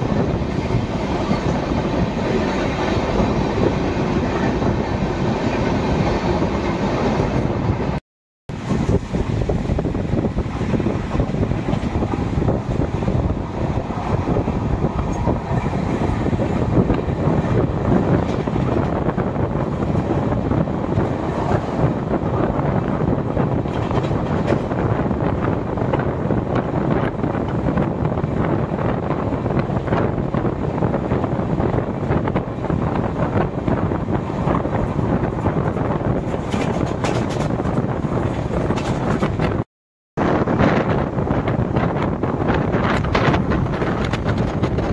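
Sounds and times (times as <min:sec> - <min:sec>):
train coaches rumbling on track: 0:00.0 - 0:44.9
wind on microphone: 0:00.0 - 0:44.9.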